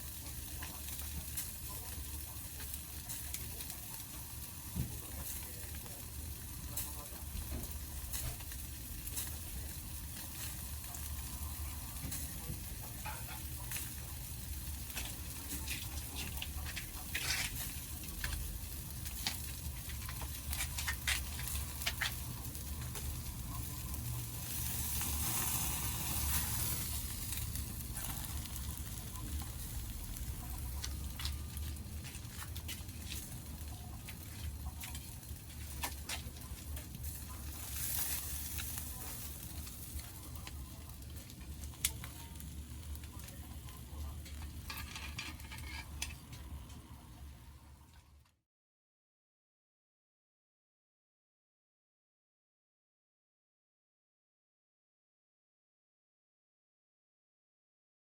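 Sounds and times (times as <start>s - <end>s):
fish sizzling on a grill: 0.0s - 48.0s
campfire crackling and popping: 0.2s - 46.7s.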